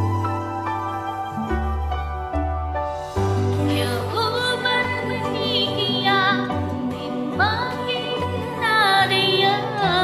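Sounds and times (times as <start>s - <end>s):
instrumental karaoke backing music: 0.0s - 10.0s.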